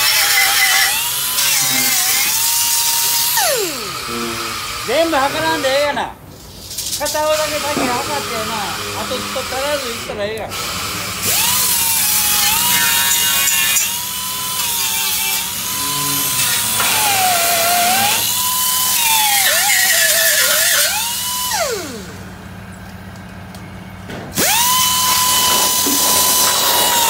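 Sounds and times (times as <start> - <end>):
wire brush grinder scrubbing steel: 0.0 - 5.8, 6.6 - 22.1, 24.4 - 27.0.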